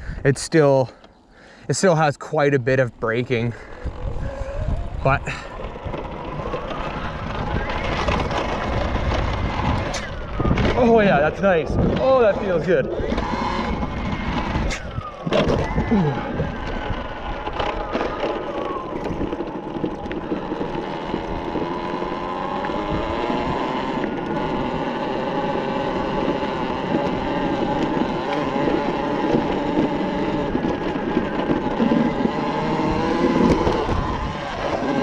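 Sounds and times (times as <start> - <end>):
electric dirt bike motor whining: 3.1 - 35.0.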